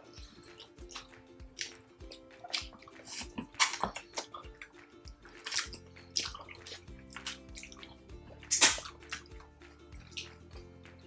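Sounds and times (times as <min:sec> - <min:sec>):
wet chewing and mouth noises: 0:00.0 - 0:10.6
soft background music: 0:00.0 - 0:11.0.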